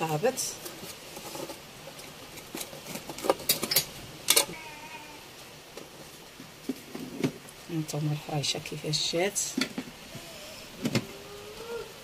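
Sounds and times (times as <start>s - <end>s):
faint kitchen noise: 0.0s - 12.0s.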